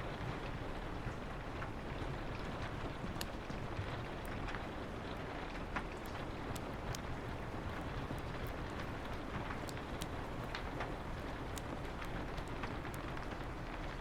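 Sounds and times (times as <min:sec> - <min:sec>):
rain on a window: 0:00.0 - 0:14.0
wood fire crackling: 0:00.0 - 0:14.0.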